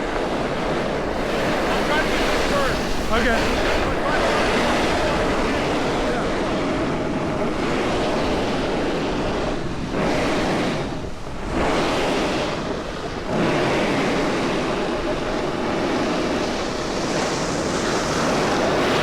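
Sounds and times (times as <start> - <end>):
snowboard sliding on snow: 0.0 - 19.0
wind over microphone: 0.0 - 19.0.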